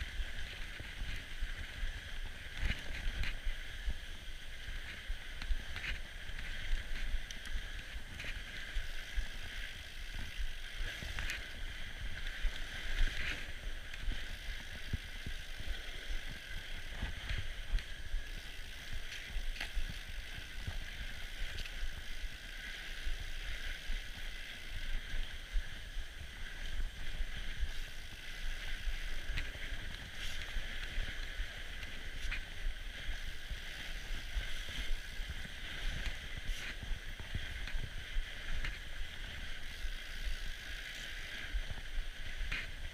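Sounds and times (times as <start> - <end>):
bike tyres rumbling on snow: 0.0 - 42.9.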